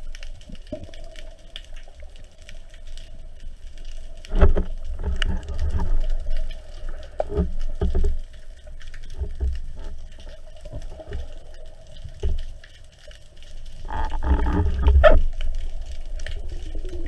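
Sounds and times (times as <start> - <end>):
crackling clicks: 0.0 - 17.0.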